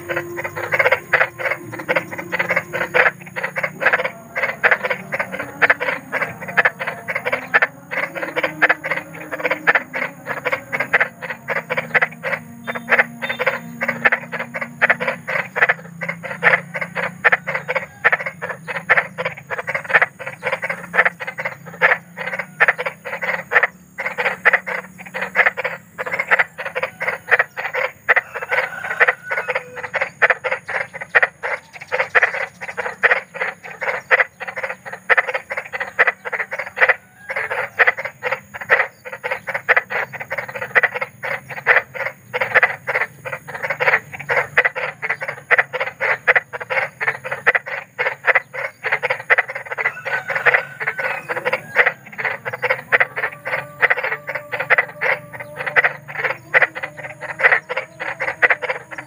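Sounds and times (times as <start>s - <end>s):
frogs croaking: 0.0s - 59.0s.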